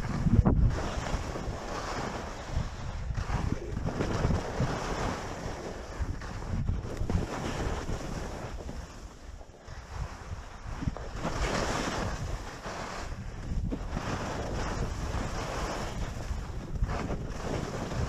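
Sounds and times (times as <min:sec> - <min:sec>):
skis carving across snow: 0:00.0 - 0:18.0
wind buffeting microphone: 0:00.0 - 0:18.0.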